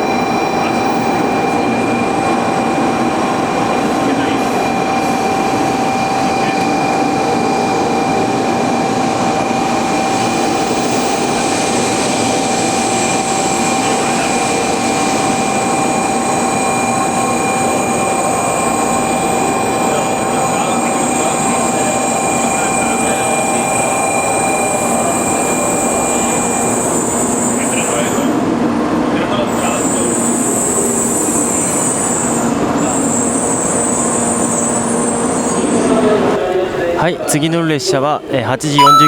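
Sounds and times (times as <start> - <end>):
train rumble and hiss: 0.0 - 37.3.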